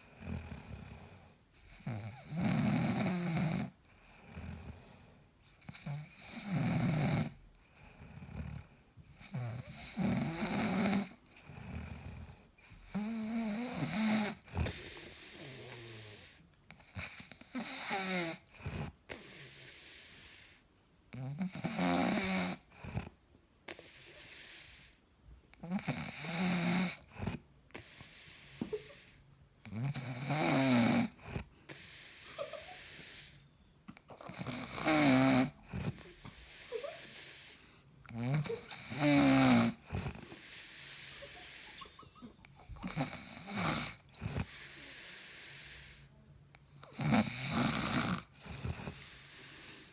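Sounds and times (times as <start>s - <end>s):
man snoring: 1.8s - 4.8s, 5.7s - 7.4s, 9.3s - 16.4s, 17.1s - 20.6s, 21.2s - 23.1s, 23.7s - 25.0s, 25.6s - 33.4s, 34.2s - 42.0s, 42.8s - 46.1s, 46.8s - 49.9s.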